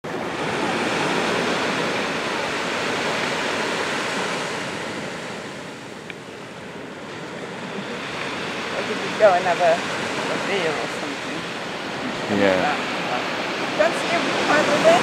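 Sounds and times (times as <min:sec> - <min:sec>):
waves washing onto beach: 0:00.1 - 0:15.0.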